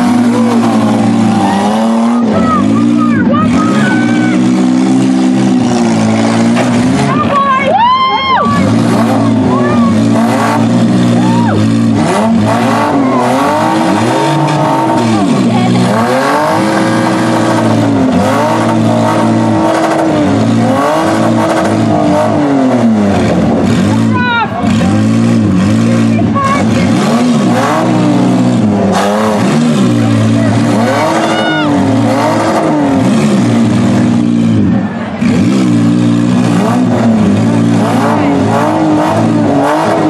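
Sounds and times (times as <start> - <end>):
minivan engines revving hard: 0.0 - 40.0.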